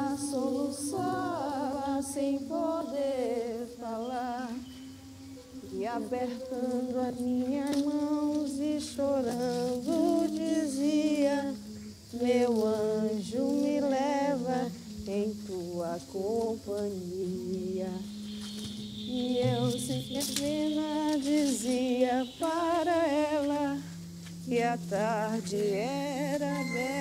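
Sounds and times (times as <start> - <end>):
steady low held note: 0.0 - 27.0
woman singing wordless melody: 0.0 - 27.0.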